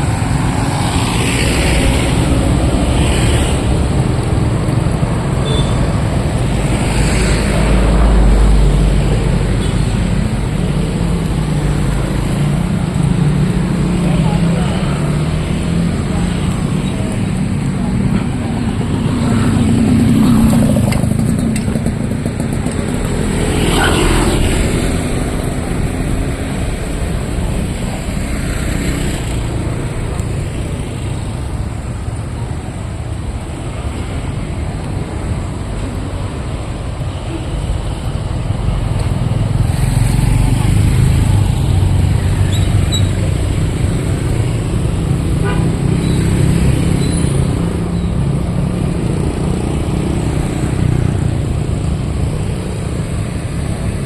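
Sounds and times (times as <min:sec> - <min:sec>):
motorcycles and cars passing: 0:00.0 - 0:54.0.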